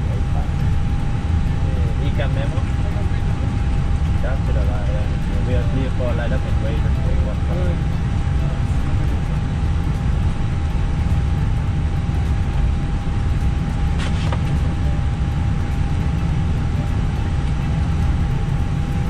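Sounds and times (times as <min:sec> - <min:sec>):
airliner engines idling rumble: 0:00.0 - 0:19.0
thin constant hum tone: 0:00.0 - 0:19.0.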